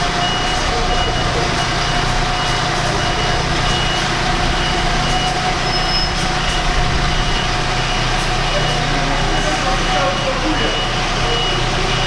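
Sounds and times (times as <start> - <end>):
bus engine rumbling: 0.0 - 12.0
faint high beep: 0.2 - 8.9, 9.8 - 12.0.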